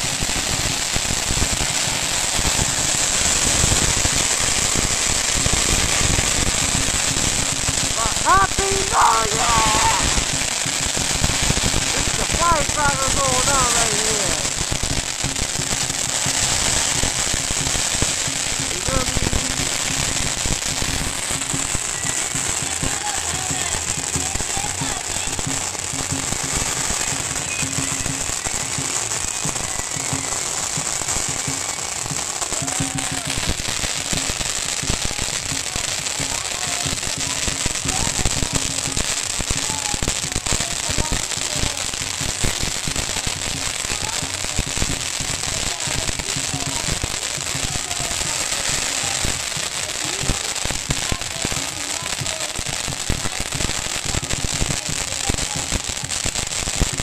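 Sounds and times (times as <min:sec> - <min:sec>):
firecrackers exploding: 0:00.0 - 0:57.0.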